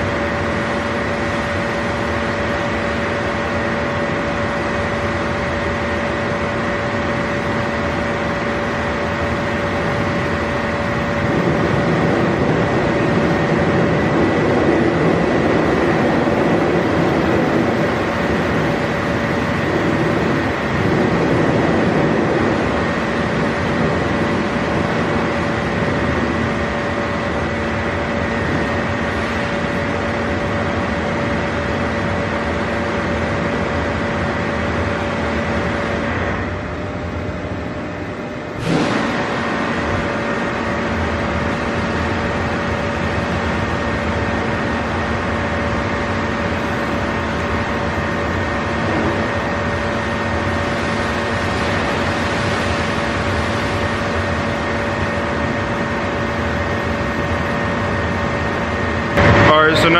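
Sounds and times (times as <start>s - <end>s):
mechanical hum with high whine: 0.0s - 59.9s.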